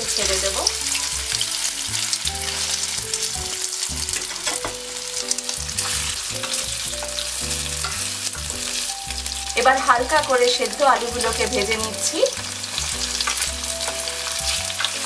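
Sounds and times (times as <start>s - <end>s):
potatoes sizzling in hot oil: 0.0s - 15.0s
stirring in frying pan: 0.0s - 15.0s.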